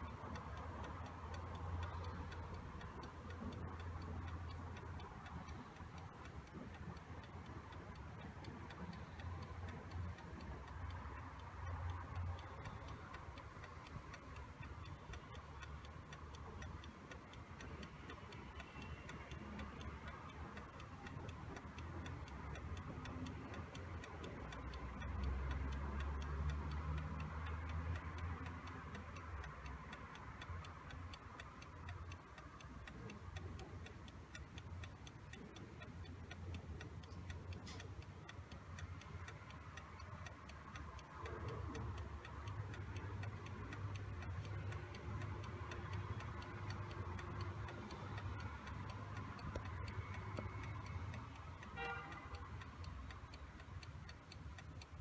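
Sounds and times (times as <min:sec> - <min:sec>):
clock ticking: 0:00.0 - 0:55.0.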